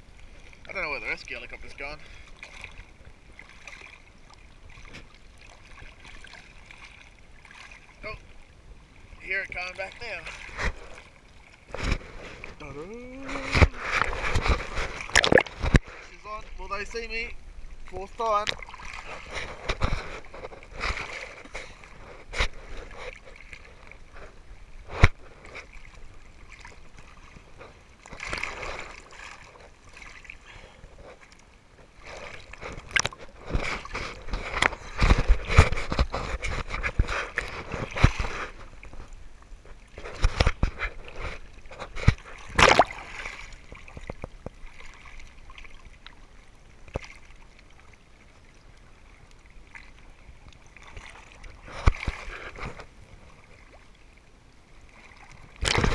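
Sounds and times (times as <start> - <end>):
seawater sloshing and splashing: 0.0 - 55.9.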